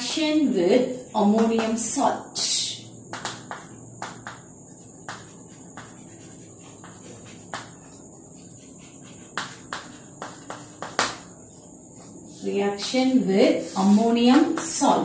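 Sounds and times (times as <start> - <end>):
chalk writing on blackboard: 0.0 - 15.0.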